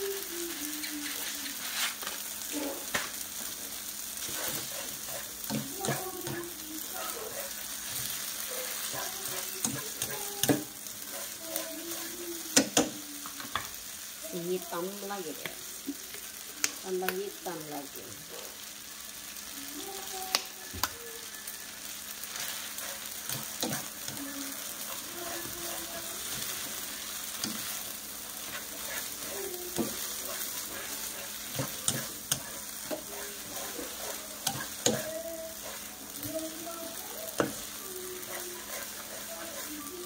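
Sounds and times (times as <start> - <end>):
noodles sizzling in a frying pan: 0.0 - 40.0.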